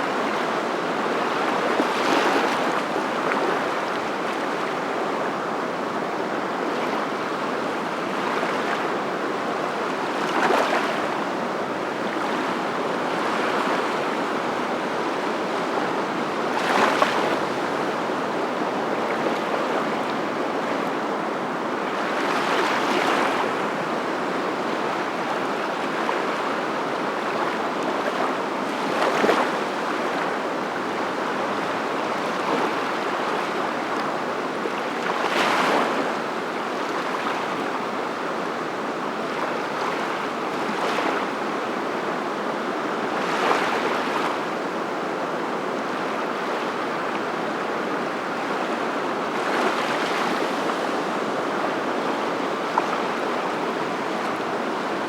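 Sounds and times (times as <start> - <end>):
surf washing in: 0.0 - 55.0.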